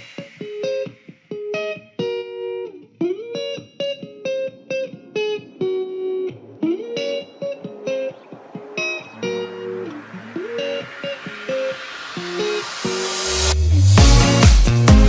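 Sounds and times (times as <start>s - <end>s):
plucked electric guitar melody: 0.5s - 13.1s.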